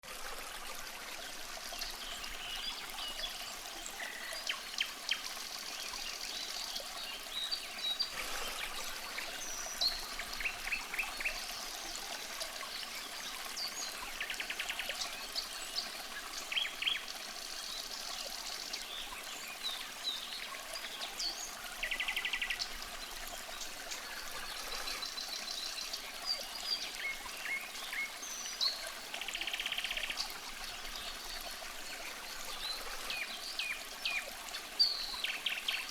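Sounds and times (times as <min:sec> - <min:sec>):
stream trickling: 0:00.0 - 0:35.9.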